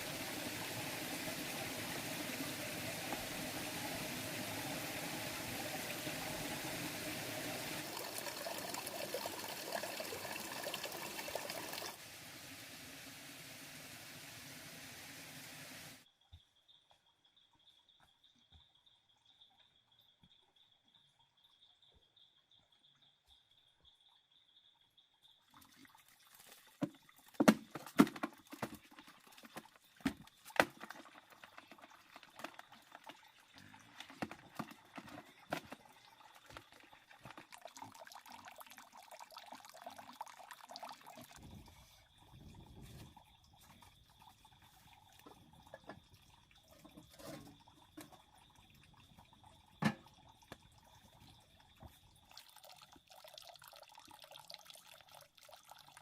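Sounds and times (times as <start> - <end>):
water splashing and dripping: 0.0 - 16.0, 25.4 - 56.0.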